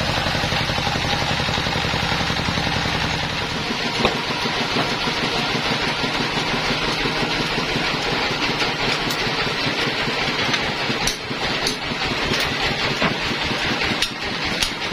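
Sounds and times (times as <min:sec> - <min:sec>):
sawmill machinery droning: 0:00.0 - 0:14.9.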